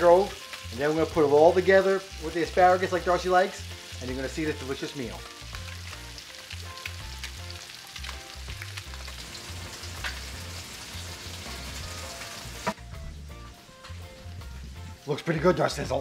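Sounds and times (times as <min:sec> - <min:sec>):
fish sizzling in a pan: 0:00.0 - 0:15.8
soft background music: 0:00.0 - 0:16.0.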